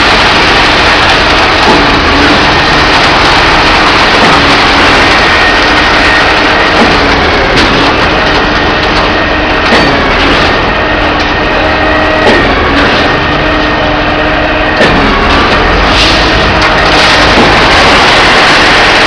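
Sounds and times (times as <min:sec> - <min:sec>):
concrete pump running: 0:00.0 - 0:19.0
sharp knocks: 0:00.8 - 0:19.0.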